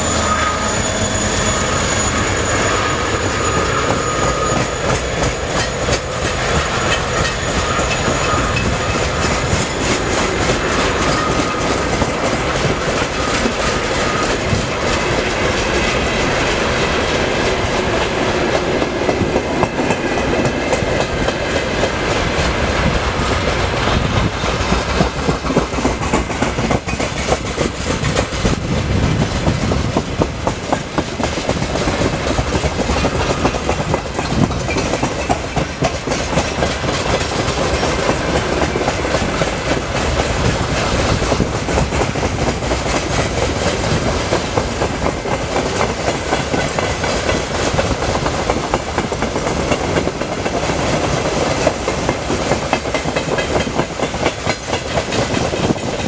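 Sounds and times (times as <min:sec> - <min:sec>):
steel wheels rushing on rails: 0:00.0 - 0:56.0
clickety-clack over rail joints: 0:01.2 - 0:56.0.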